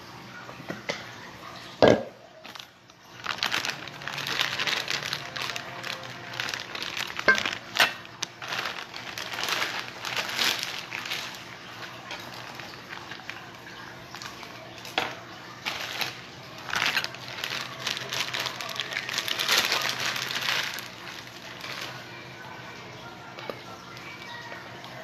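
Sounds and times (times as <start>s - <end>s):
plastic bag crinkling: 2.4s - 25.0s.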